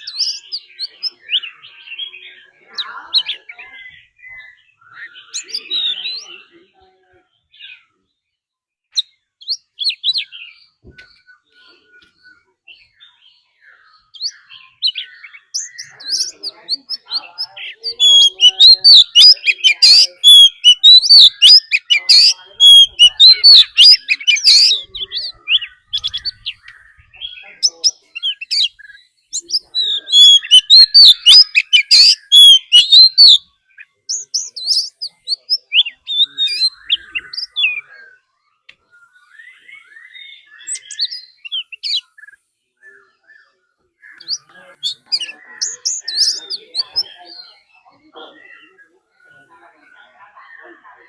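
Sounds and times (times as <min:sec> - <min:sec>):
bird singing whistles and chirps: 0:00.0 - 0:06.6, 0:08.9 - 0:50.0.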